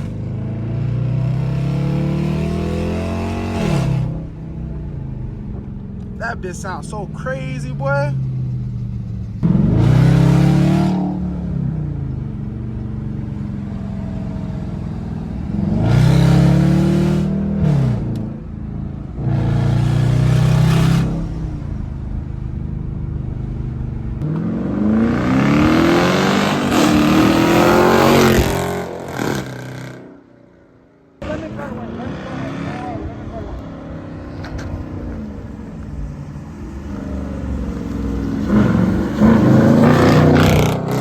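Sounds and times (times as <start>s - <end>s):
car exhaust accelerating: 0.0s - 30.3s, 31.2s - 41.0s.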